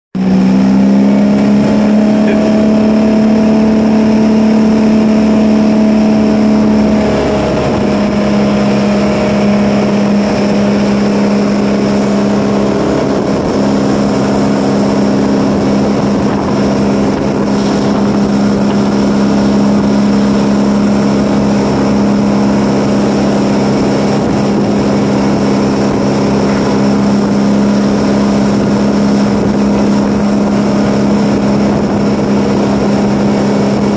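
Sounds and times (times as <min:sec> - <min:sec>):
boat engine running: 0:00.2 - 0:33.9
wind and water rushing: 0:00.2 - 0:33.9.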